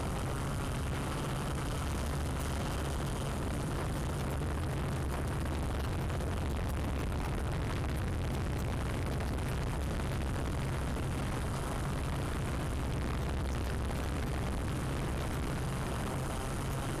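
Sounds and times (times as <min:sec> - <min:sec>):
drone propellers: 0:00.0 - 0:17.0
wind on microphone: 0:00.0 - 0:17.0.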